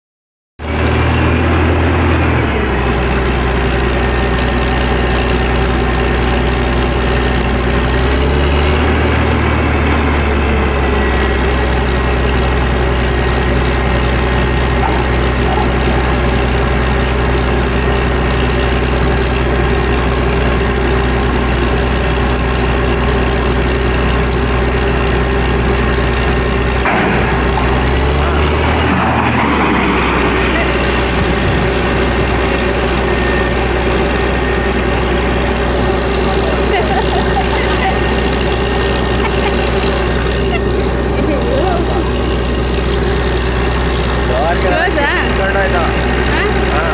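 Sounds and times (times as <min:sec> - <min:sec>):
diesel engine droning: 0:00.6 - 0:46.9.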